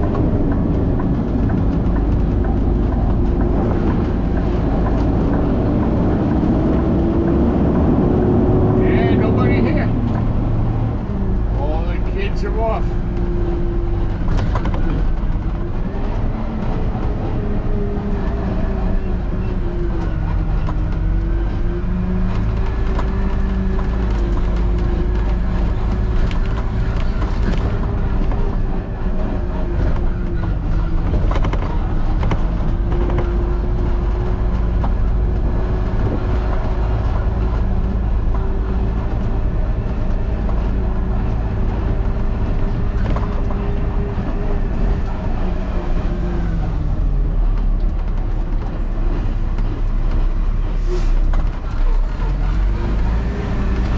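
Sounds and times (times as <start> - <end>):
truck diesel engine droning: 0.0 - 53.9.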